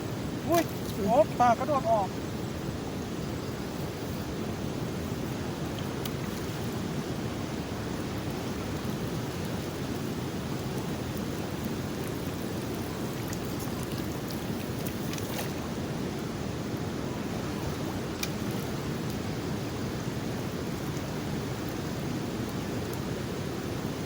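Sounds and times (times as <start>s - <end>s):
river rushing: 0.0s - 22.4s.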